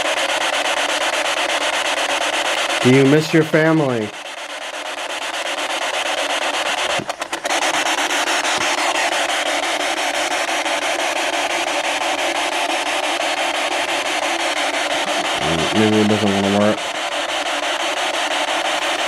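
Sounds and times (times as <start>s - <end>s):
chopped radio static: 0.0s - 19.0s.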